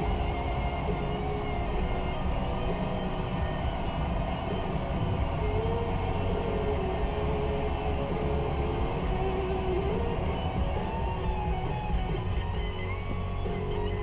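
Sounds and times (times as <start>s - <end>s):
car engine running: 0.0s - 14.0s
faint wavering whine: 0.0s - 14.0s.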